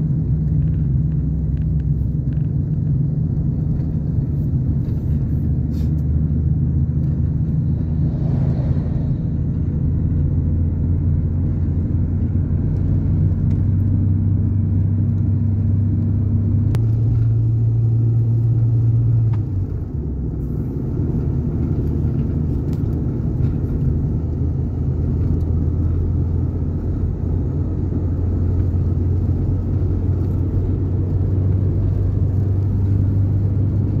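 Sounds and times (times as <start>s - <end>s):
car engine hum: 0.0s - 34.0s
tyre and road noise: 0.0s - 34.0s.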